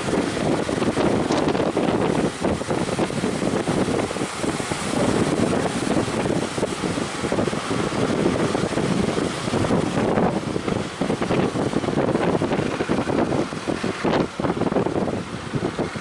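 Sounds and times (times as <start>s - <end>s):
sea waves rushing: 0.0s - 16.0s
wind buffeting microphone: 0.0s - 16.0s.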